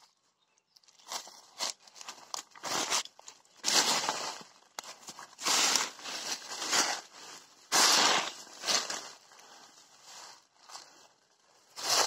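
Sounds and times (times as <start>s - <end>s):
dry leaves crunching underfoot: 0.8s - 12.0s.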